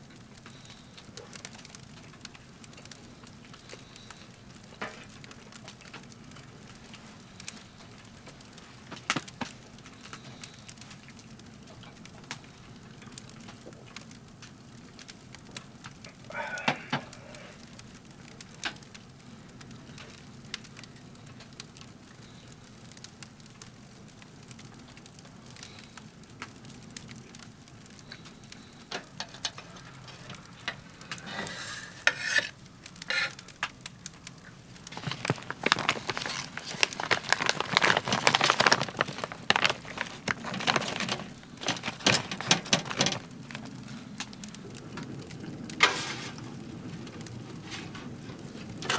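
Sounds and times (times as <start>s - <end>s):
firewood crackling and popping: 0.0s - 48.9s.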